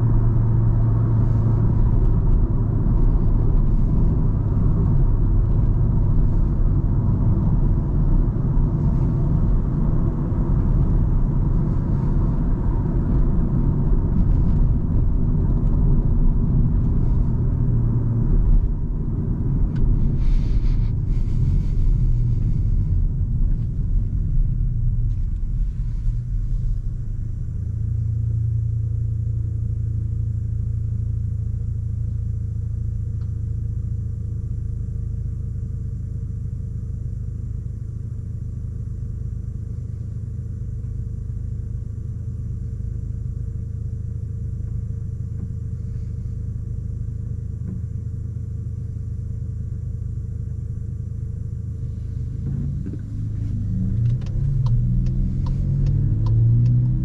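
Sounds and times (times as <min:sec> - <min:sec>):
road noise: 0:00.0 - 0:33.9, 0:42.7 - 0:57.0
car engine rumble: 0:00.0 - 0:57.0.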